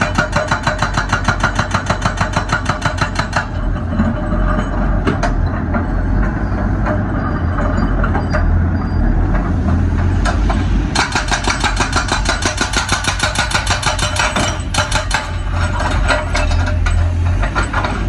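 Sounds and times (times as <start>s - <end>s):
hydraulic rock breaker hammering: 0.0s - 7.0s, 10.0s - 18.0s.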